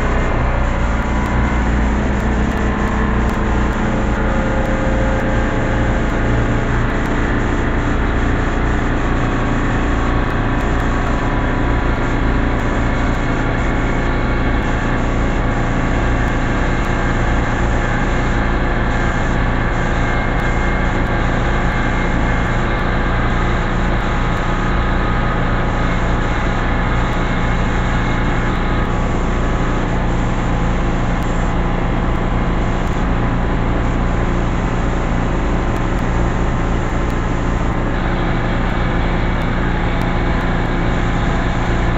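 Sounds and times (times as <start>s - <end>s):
air compressor drone: 0.0s - 41.9s.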